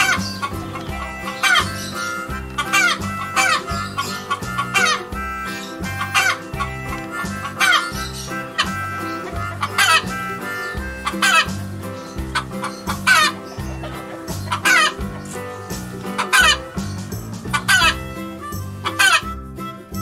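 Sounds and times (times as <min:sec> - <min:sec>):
hen clucking and cackling: 0:00.0 - 0:20.0
light background music: 0:00.0 - 0:20.0.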